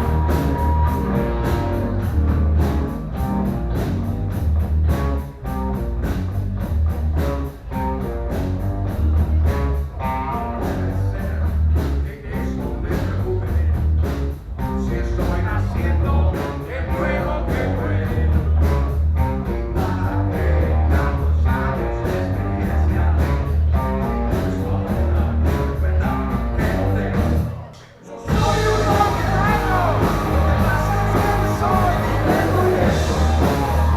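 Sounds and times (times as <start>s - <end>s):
rock and roll music: 0.0s - 33.9s.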